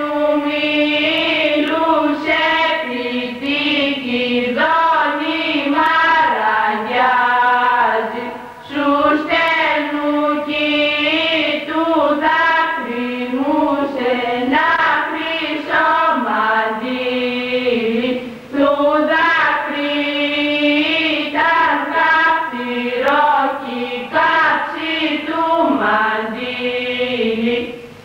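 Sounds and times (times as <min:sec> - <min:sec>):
woman singing unaccompanied: 0:00.0 - 0:28.0.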